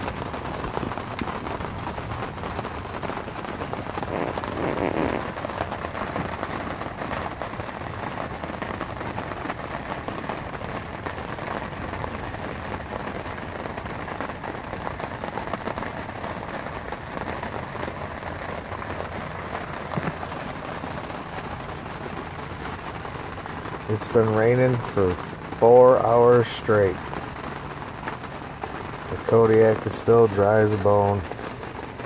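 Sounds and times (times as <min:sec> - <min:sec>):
rain on canvas tent: 0:00.0 - 0:32.0.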